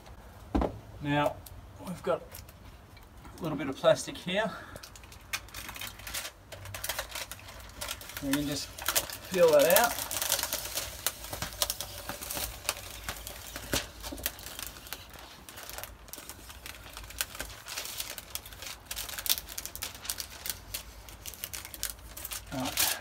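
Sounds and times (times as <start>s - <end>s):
plastic film crackling as peeled: 1.9s - 2.6s, 4.8s - 23.0s.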